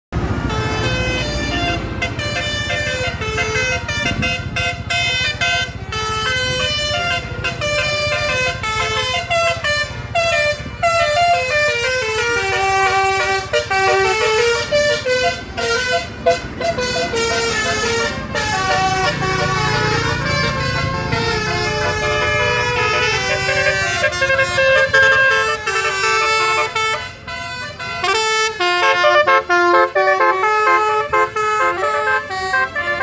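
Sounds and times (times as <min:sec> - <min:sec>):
traffic rumble: 0:00.1 - 0:33.0
musical air horns: 0:00.2 - 0:33.0.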